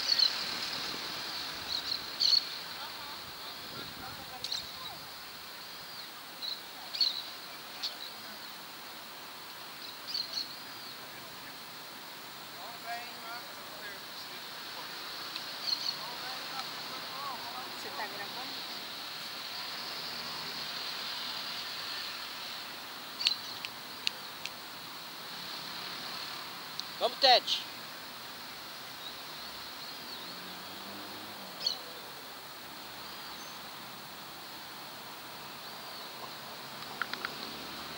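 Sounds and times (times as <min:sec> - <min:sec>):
faint high insect drone: 0:00.0 - 0:37.9
steady outdoor hiss: 0:00.0 - 0:37.9.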